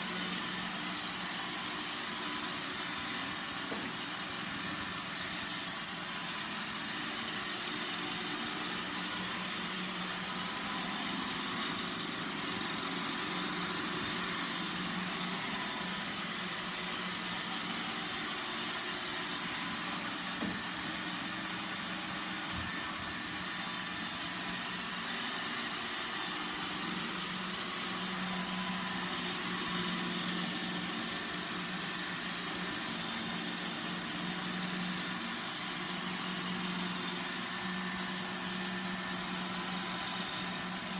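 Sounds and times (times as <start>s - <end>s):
robot vacuum running: 0.0s - 40.9s.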